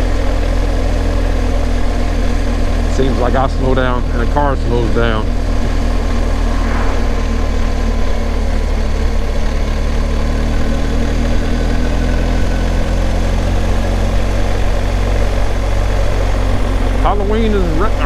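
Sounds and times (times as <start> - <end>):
motorcycle engine cruising: 0.0 - 18.0
wind and road noise: 0.0 - 18.0.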